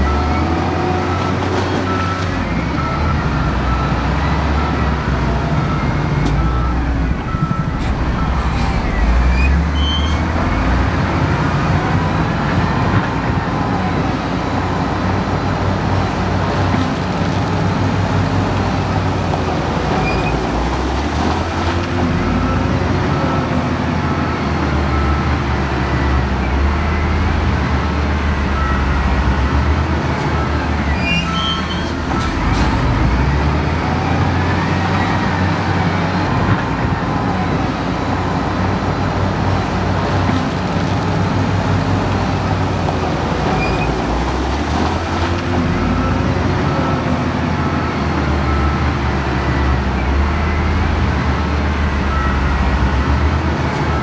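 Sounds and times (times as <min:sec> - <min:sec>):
heavy diesel machines revving: 0:00.0 - 0:54.0.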